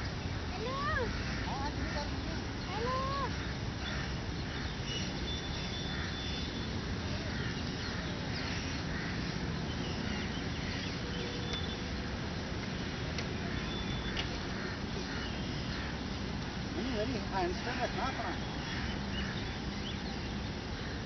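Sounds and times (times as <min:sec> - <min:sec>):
low outdoor rush: 0:00.0 - 0:21.0
faint bird calls: 0:00.2 - 0:12.1, 0:13.3 - 0:21.0.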